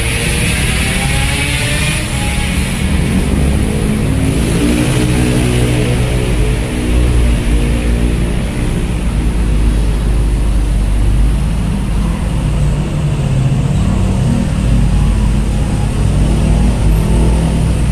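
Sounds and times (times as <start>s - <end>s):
diesel truck engine: 0.0s - 17.9s
road traffic rumble: 0.0s - 17.9s.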